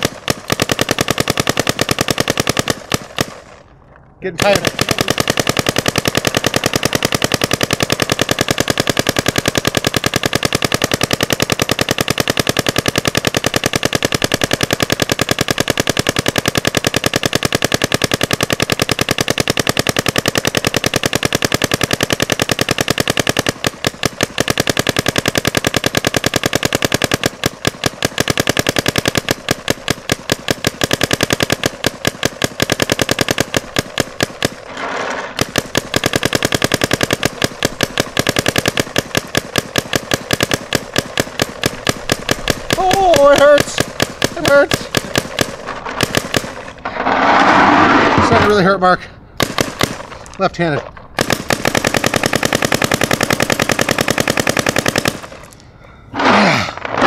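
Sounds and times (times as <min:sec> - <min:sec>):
paintball marker firing rapidly: 0:00.0 - 0:03.7, 0:04.3 - 0:48.8, 0:49.4 - 0:55.6.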